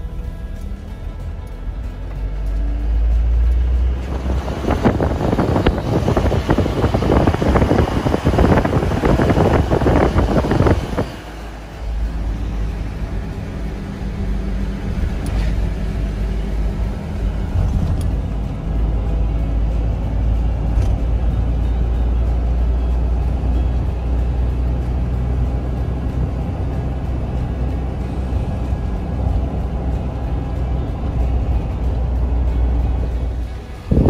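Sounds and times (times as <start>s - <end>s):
car road rumble from inside: 0.0s - 34.0s
rough rushing noise over bridge: 0.0s - 34.0s.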